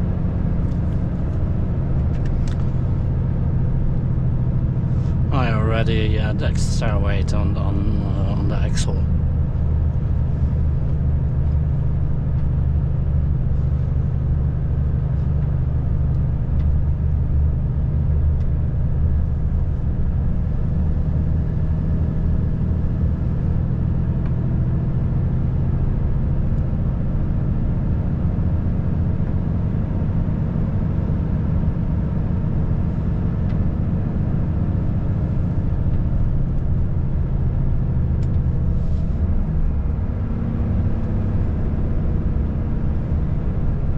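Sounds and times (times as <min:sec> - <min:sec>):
road rumble: 0:00.0 - 0:43.9
truck diesel engine droning: 0:00.0 - 0:43.9.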